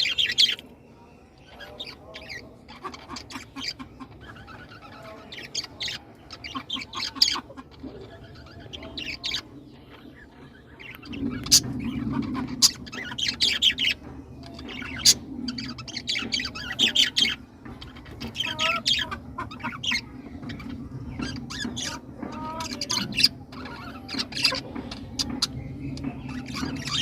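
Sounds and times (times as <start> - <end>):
birds chirping and squawking: 0.0 - 27.0
low background rumble: 3.4 - 27.0.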